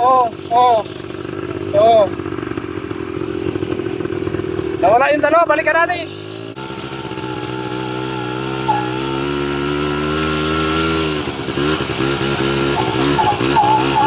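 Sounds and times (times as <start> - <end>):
atv engine revving: 0.0 - 14.0.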